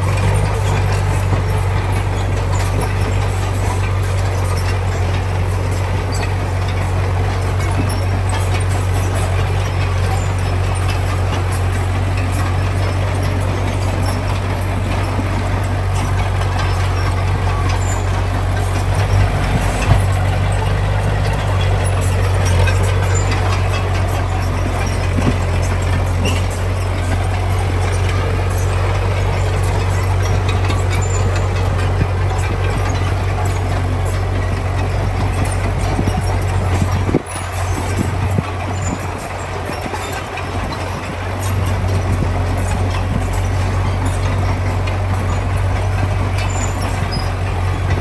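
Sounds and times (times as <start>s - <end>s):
heavy diesel engine droning: 0.0s - 48.0s.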